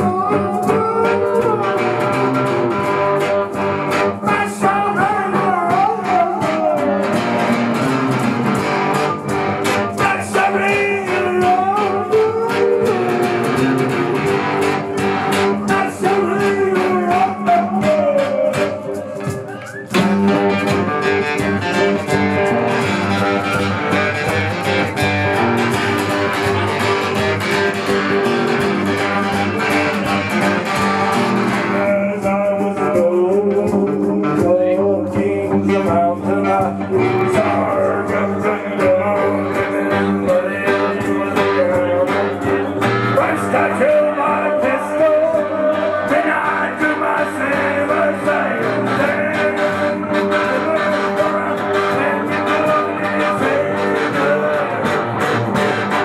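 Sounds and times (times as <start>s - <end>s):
acoustic guitar: 0.0s - 56.0s
electric guitar: 0.0s - 56.0s.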